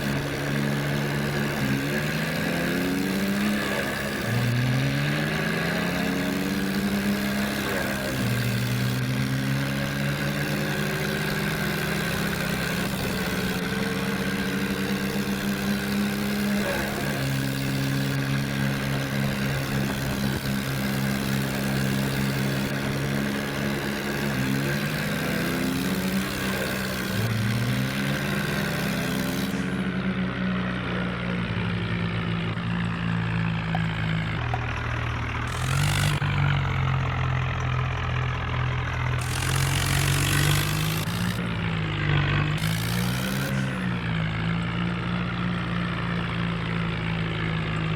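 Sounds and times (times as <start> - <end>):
diesel tractor engines revving: 0.0 - 47.9.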